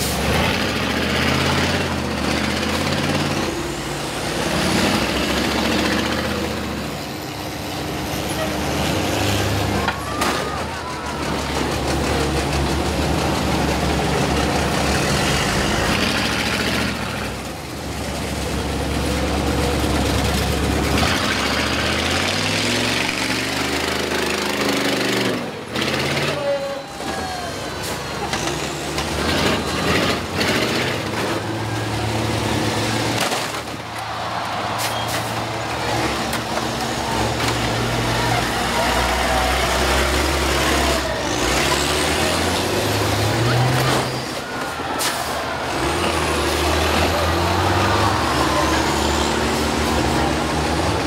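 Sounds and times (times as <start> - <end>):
bus engines revving: 0.0 - 51.0
buses crashing together: 0.0 - 51.0.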